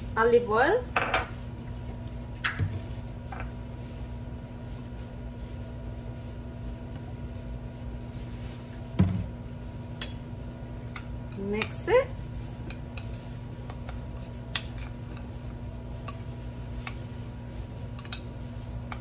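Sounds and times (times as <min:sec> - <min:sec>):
kitchen hum: 0:00.0 - 0:19.0.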